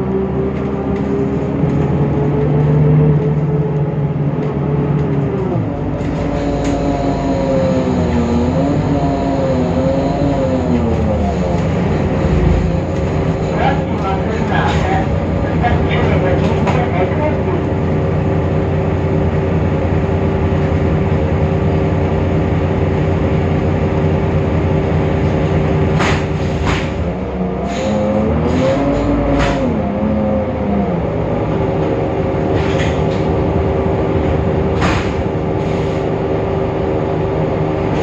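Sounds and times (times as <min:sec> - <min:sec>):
bus diesel engine whine: 0:00.0 - 0:38.0.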